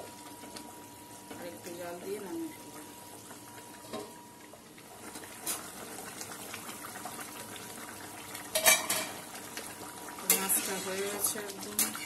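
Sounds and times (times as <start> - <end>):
curry bubbling at a boil: 0.0 - 12.0.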